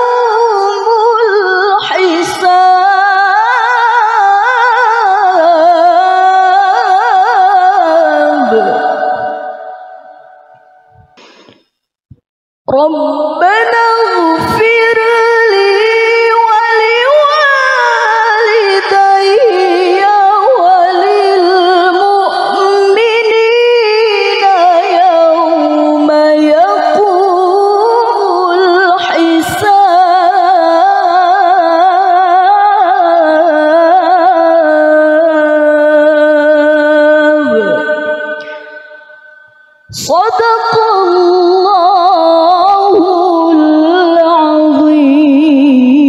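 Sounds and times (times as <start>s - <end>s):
woman reciting in melismatic song: 0.0s - 11.2s, 12.7s - 46.0s.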